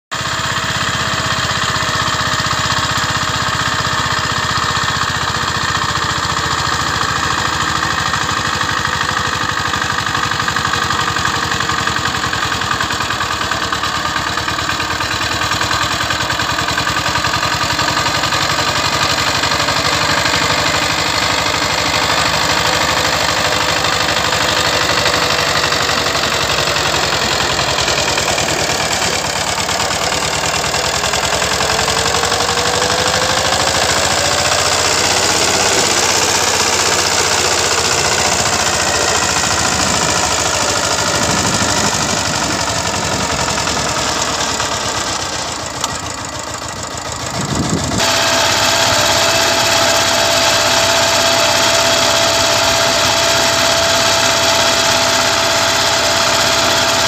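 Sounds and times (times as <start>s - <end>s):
diesel tiller engine running: 0.1s - 57.0s
rotary tiller churning soil: 0.2s - 57.0s.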